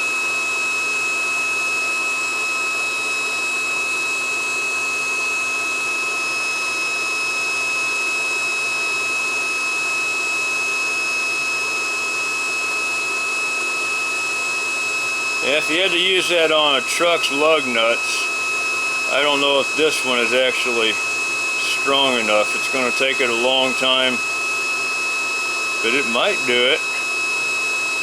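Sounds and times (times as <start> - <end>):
induction heater fan and whine: 0.8 - 28.0.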